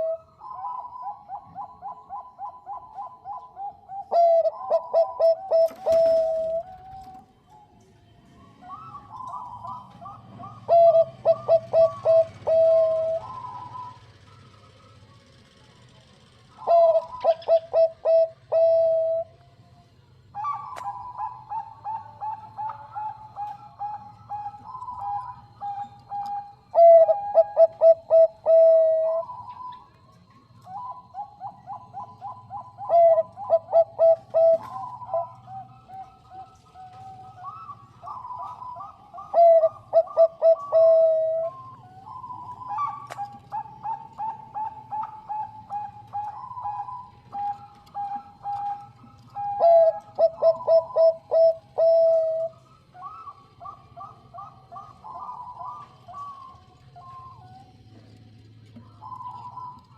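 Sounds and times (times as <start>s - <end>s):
dove cooing: 0.0s - 7.8s, 8.5s - 59.9s.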